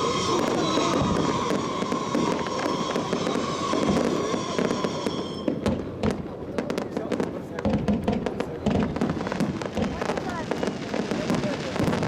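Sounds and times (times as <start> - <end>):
fireworks crackling and popping: 0.0 - 12.0
sharp firework cracks: 0.0 - 12.0.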